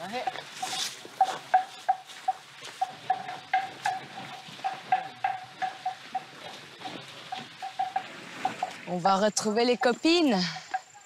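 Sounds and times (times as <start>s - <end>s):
elephant bell clanking: 0.0s - 11.0s.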